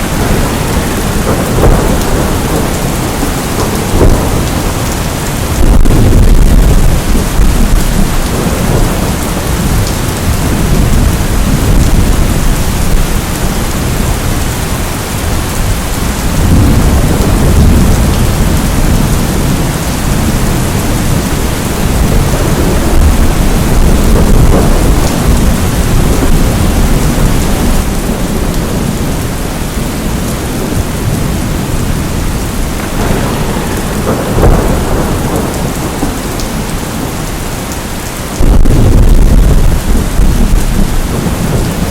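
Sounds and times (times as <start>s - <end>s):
heavy rain: 0.0s - 41.9s
low rumbling thunder: 0.0s - 41.9s.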